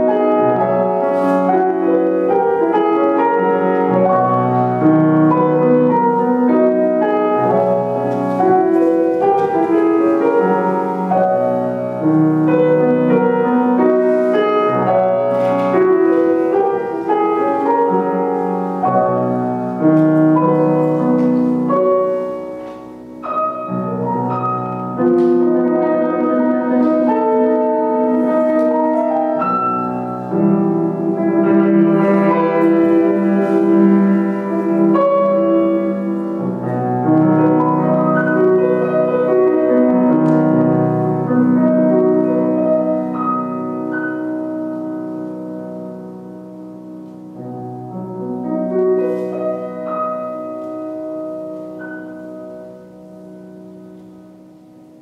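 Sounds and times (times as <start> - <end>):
solo grand piano chords: 0.0 - 55.0.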